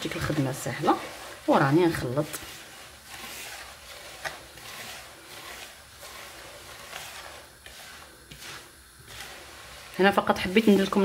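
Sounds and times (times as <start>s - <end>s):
gritty rustle of grains rubbed: 0.0s - 11.0s.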